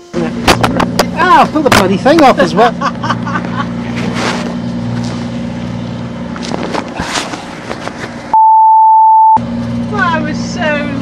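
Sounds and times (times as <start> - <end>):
boat engine running: 0.0 - 8.4, 9.4 - 11.0.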